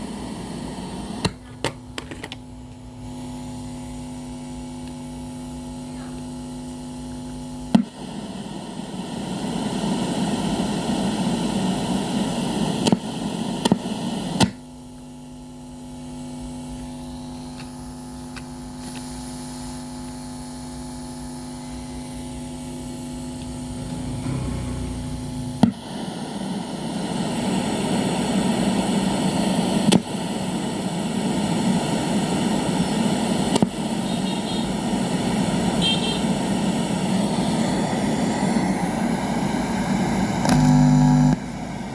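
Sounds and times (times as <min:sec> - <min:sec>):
steady electrical hum: 0:00.0 - 0:41.9
radio static hiss: 0:05.6 - 0:14.6, 0:16.1 - 0:41.9.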